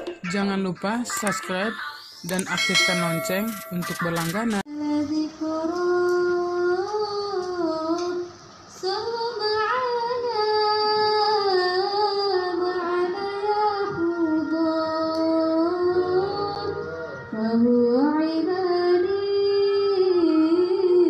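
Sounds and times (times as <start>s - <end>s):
woman singing unaccompanied: 1.2s - 21.0s.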